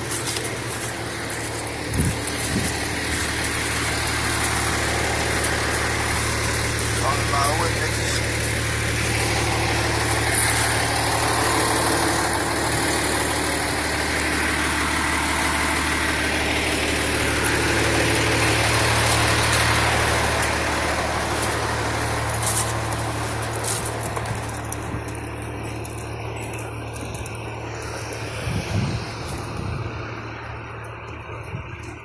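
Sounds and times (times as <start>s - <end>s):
large vehicle engine idling: 0.0s - 32.0s.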